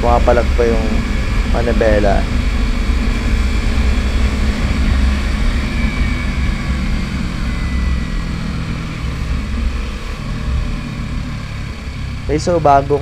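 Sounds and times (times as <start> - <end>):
motorcycle engine exhaust note: 0.0 - 13.0.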